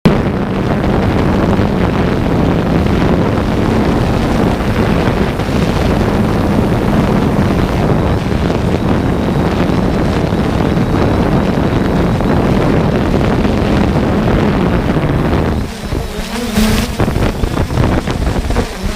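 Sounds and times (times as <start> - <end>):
gusty wind on microphone: 0.0 - 18.9
steady low hum: 0.1 - 18.9.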